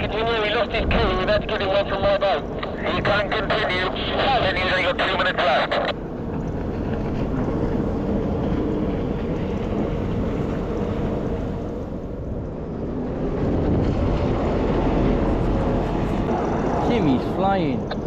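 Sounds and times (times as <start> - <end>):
watercraft engines running: 0.0 - 18.0
wind rumbling on microphone: 0.0 - 18.0.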